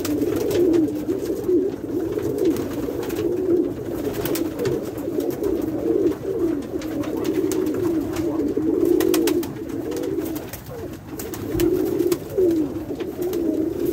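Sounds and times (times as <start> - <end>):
pigeons cooing: 0.0 - 13.9.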